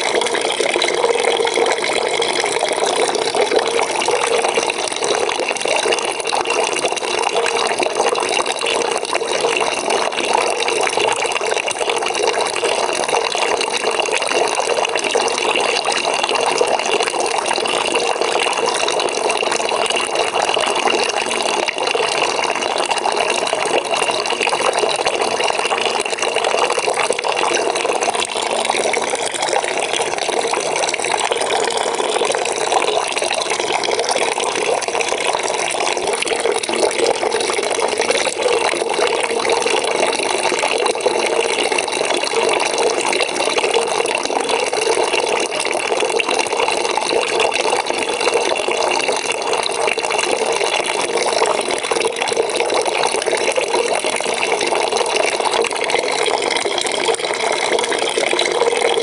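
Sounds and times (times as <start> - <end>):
tap water splashing into bucket: 0.0 - 59.0.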